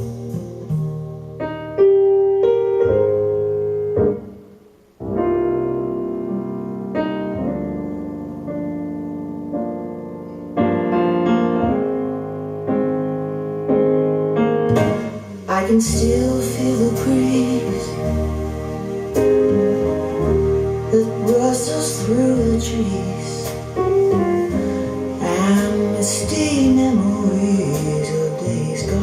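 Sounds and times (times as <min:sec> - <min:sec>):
solo piano over speakers: 0:00.0 - 0:29.0.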